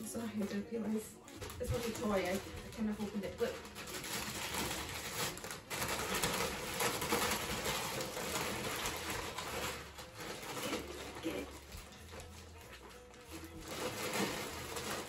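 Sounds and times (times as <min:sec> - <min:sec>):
wrapping paper crinkling and tearing: 0:00.0 - 0:15.0.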